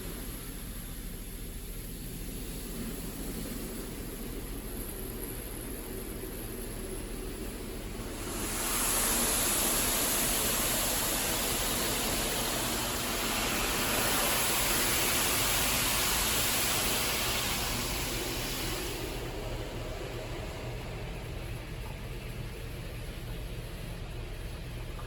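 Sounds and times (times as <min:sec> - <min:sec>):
car wash spraying water: 0:00.0 - 0:25.0.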